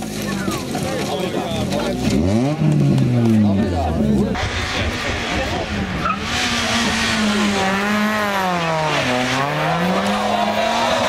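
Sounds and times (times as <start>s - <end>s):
car engine revving hard: 1.9s - 11.0s.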